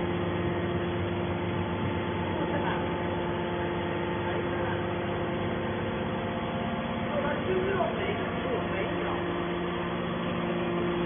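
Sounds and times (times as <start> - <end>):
motor and hydraulic pump humming: 0.0 - 11.0.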